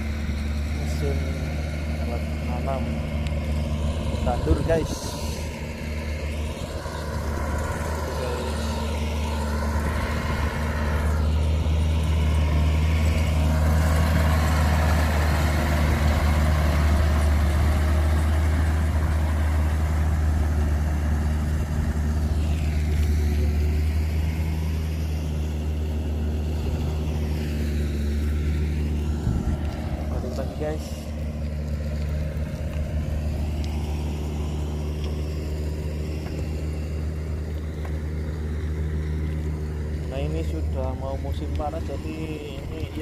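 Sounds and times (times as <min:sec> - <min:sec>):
tractor engine droning: 0:00.0 - 0:43.0.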